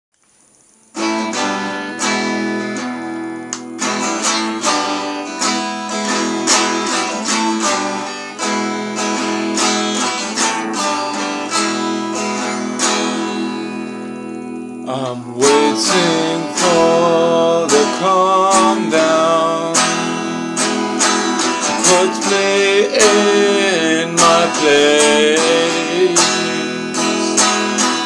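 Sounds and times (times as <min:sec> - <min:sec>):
guitar strumming chords: 0:00.6 - 0:28.0.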